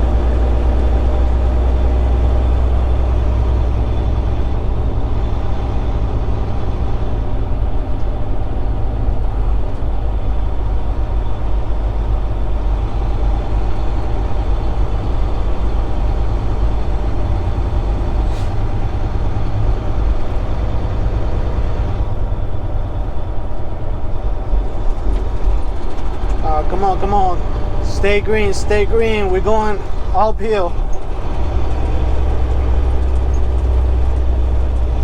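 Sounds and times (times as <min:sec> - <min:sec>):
road noise: 0:00.0 - 0:35.0
truck diesel engine rumble: 0:00.0 - 0:35.0.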